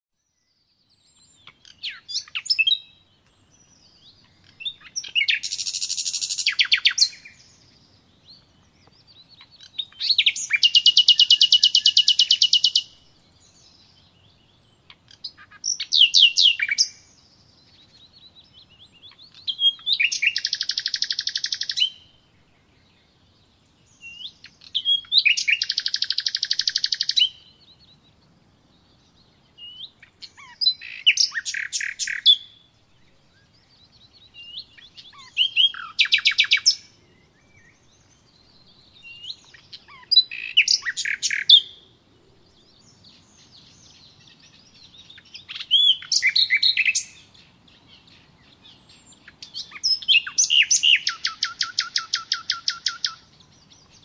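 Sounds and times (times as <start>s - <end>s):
songbird trilling and chirping: 0.2s - 54.0s.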